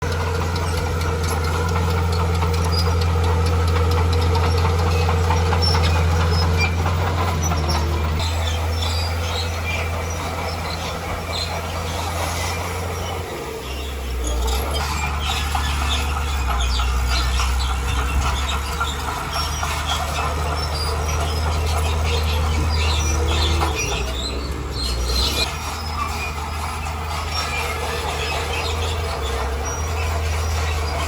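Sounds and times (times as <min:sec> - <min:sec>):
bulldozer diesel engine running: 0:00.0 - 0:31.0
metallic clicks and squeaks from tracks: 0:00.0 - 0:31.0.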